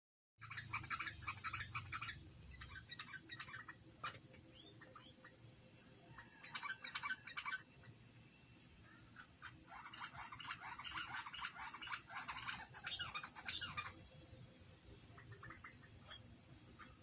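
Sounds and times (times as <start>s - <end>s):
bulbuls chirping: 0.4s - 17.0s.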